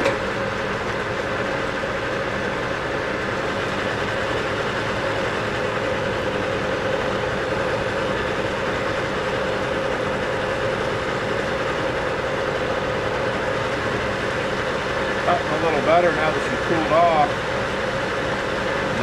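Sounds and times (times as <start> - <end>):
lathe machine hum: 0.0 - 19.0.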